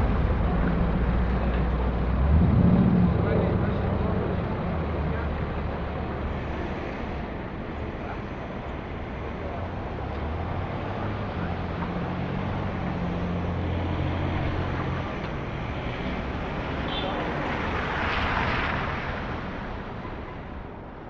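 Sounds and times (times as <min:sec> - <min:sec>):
vehicle engine hum: 0:00.0 - 0:20.8.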